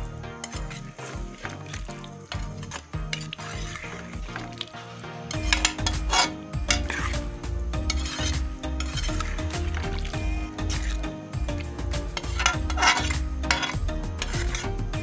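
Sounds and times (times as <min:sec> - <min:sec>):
spatula scraping metal pot: 0:00.0 - 0:15.0.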